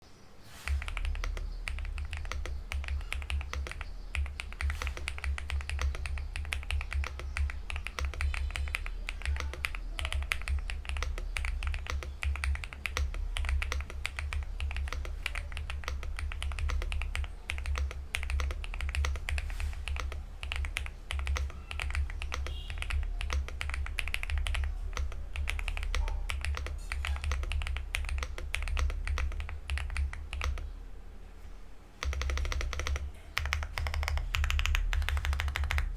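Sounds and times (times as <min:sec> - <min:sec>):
mechanical keyboard typing: 0:00.7 - 0:30.8, 0:32.0 - 0:35.9.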